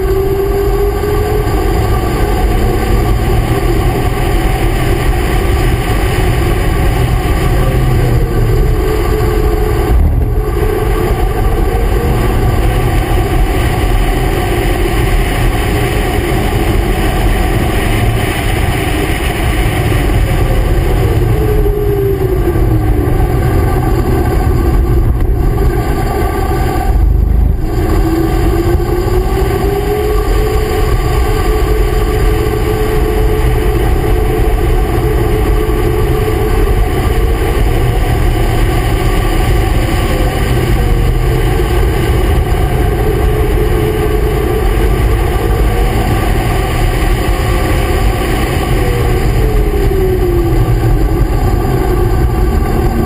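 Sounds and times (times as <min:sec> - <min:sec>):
heavy wind: 0:00.0 - 0:53.0
road rumble: 0:00.0 - 0:53.0
vehicle engine running hard: 0:00.0 - 0:53.0.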